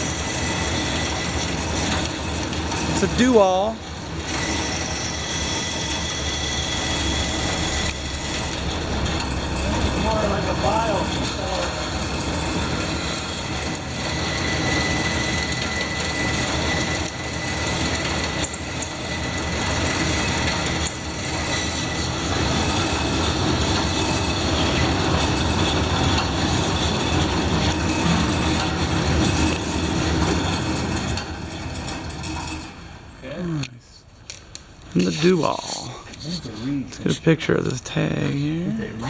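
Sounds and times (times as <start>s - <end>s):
mechanical running noise with whine: 0.0s - 33.4s.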